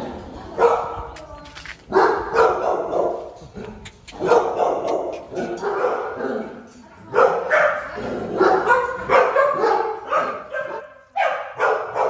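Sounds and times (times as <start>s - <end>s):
dog barking: 0.6s - 1.0s, 1.9s - 3.4s, 4.1s - 12.0s.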